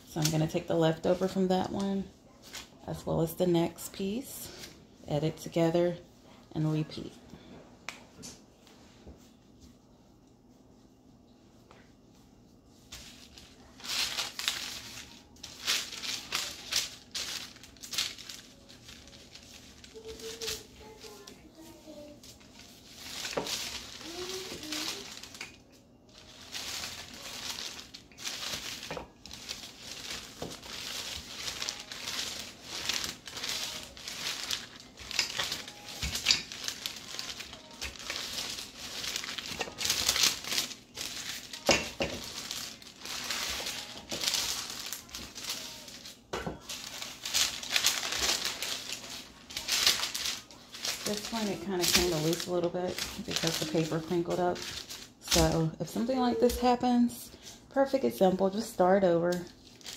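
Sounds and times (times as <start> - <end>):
baking paper crinkling: 0.0 - 7.5, 11.5 - 59.9.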